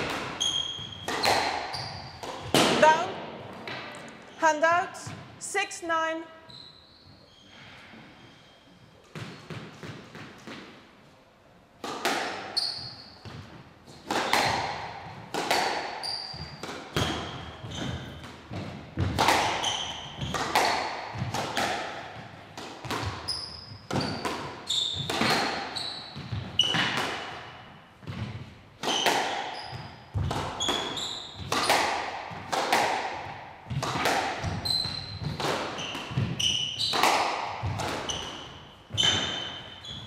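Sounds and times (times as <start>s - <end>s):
squash ball hitting rackets and walls: 0.0s - 4.2s, 5.1s - 5.4s, 8.9s - 11.1s, 11.7s - 40.0s
shoes squeaking on court floor: 0.0s - 5.3s, 6.4s - 10.6s, 12.4s - 15.2s, 15.9s - 21.4s, 22.1s - 32.4s, 33.7s - 40.0s.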